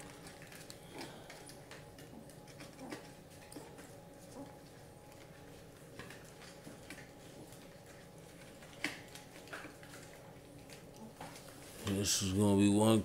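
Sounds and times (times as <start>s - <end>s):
puppies suckling: 0.0s - 11.9s.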